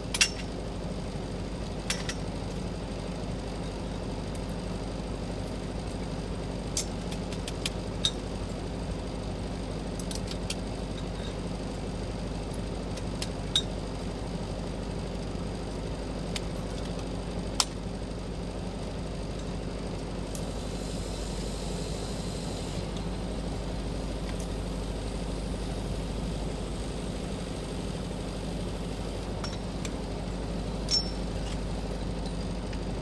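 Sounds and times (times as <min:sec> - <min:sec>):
welding equipment hum: 0:00.0 - 0:33.0.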